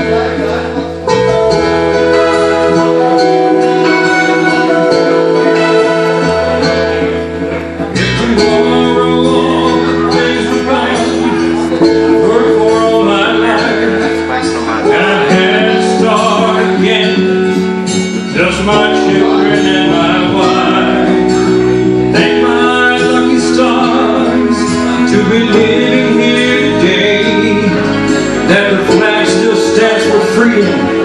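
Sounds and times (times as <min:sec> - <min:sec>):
man singing into a microphone: 0:00.0 - 0:07.2, 0:08.0 - 0:31.0
backing music with guitar: 0:00.0 - 0:31.0.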